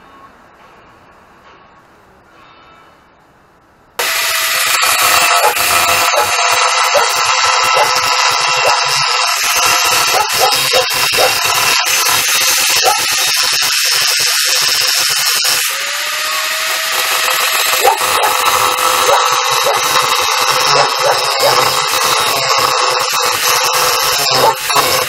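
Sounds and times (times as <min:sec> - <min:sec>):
angle grinder cutting steel: 0:04.0 - 0:25.0.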